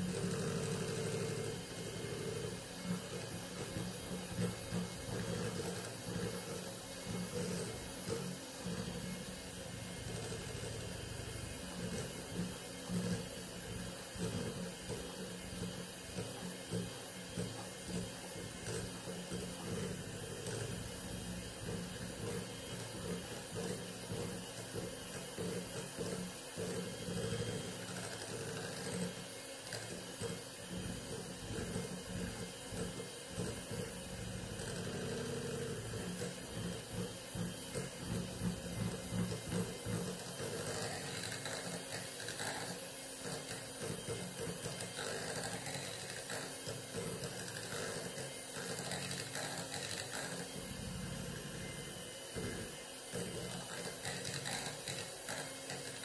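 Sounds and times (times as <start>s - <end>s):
electric hand mixer whisking: 0.0s - 56.0s.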